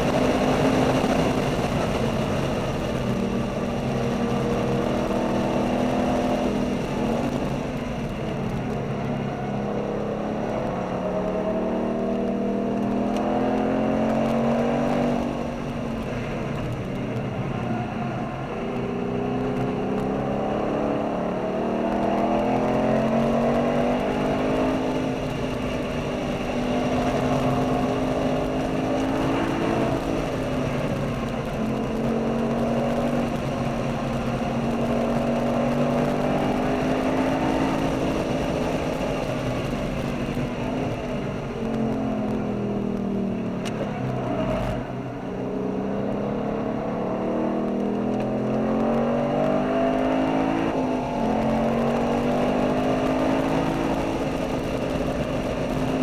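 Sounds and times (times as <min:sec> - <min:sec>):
road and wind noise: 0:00.0 - 0:56.0
sports car engine accelerating: 0:00.0 - 0:56.0.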